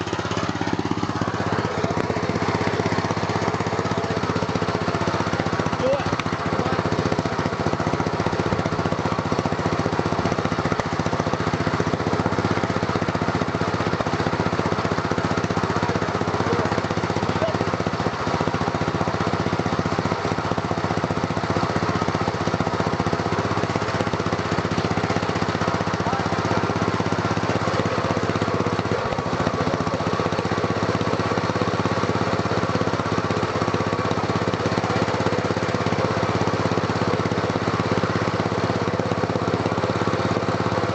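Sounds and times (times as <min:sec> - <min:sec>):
lawn mower engine running loud: 0:00.0 - 0:40.9.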